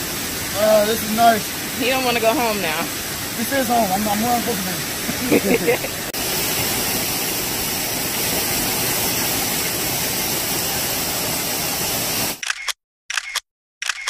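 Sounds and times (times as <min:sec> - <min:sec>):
waterfall rushing over rock: 0:00.0 - 0:12.4.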